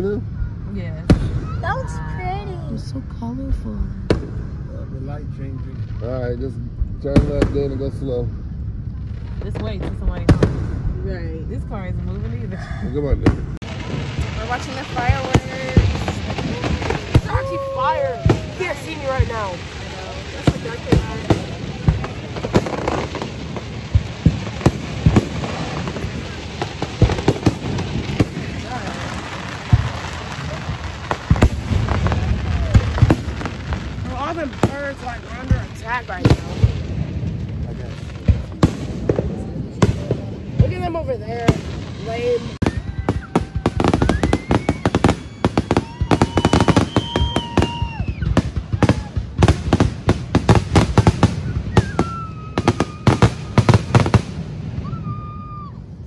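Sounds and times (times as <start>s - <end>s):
steady background rumble: 0.0s - 46.2s
fireworks bangs and pops: 0.9s - 2.9s, 4.0s - 8.3s, 8.9s - 56.0s.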